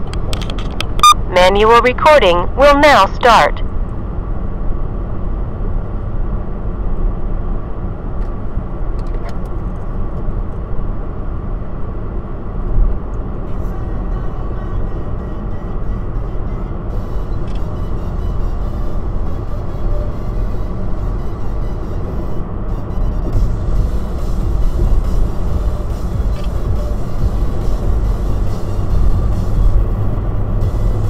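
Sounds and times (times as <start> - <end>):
road and engine noise in cab: 0.0 - 31.0.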